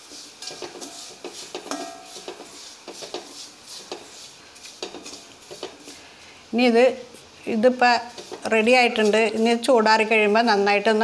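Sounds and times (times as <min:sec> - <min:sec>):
metal spoon scraping a pan: 0:00.0 - 0:06.2, 0:07.5 - 0:11.0.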